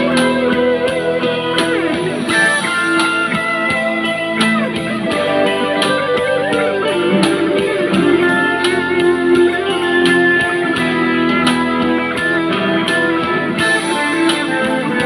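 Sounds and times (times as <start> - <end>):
guitar melody over chords: 0.0 - 15.0.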